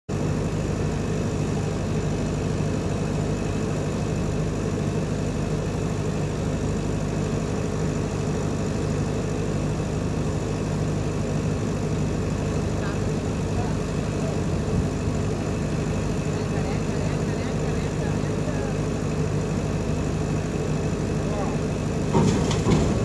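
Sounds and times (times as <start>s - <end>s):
ship engine low drone: 0.1s - 23.0s.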